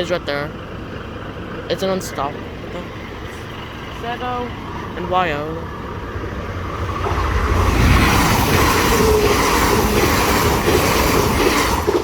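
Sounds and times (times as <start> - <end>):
train wheel and rail noise: 0.0 - 12.0.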